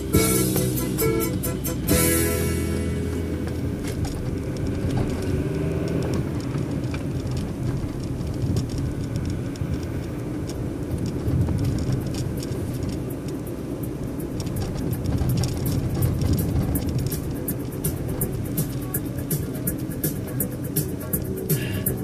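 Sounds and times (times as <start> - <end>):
car road and engine noise: 0.0 - 22.0
sharp ticks: 3.8 - 22.0.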